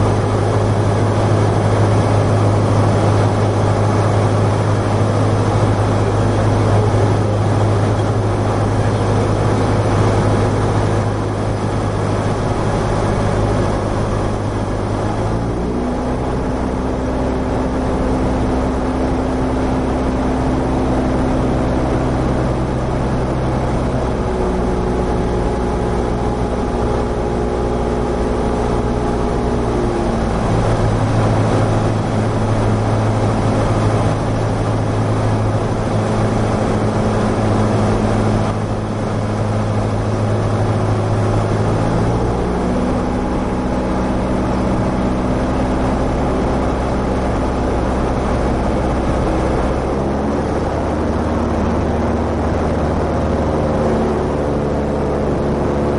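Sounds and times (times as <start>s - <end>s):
light aircraft engine droning: 0.0s - 55.9s.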